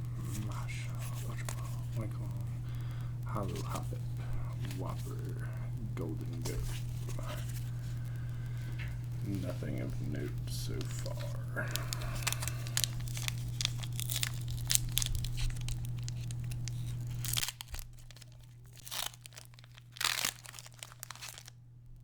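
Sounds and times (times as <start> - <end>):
foil wrapper crinkling and tearing: 0.0 - 21.6.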